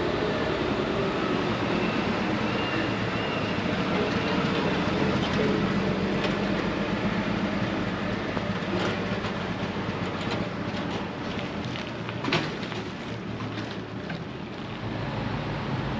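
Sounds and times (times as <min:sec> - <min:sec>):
vehicle engine rumble: 0:00.0 - 0:15.9.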